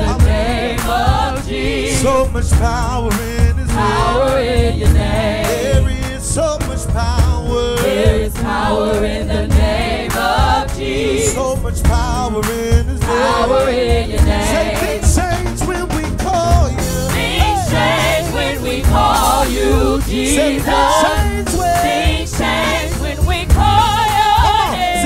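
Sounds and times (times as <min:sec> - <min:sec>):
gospel singers singing: 0:00.0 - 0:25.0
instrumental backing with steady beat: 0:00.0 - 0:25.0.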